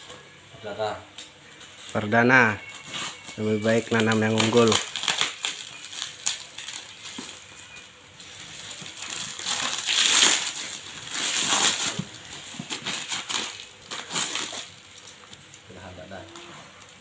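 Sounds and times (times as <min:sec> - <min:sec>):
plastic wrapping crinkling: 0:01.5 - 0:17.0.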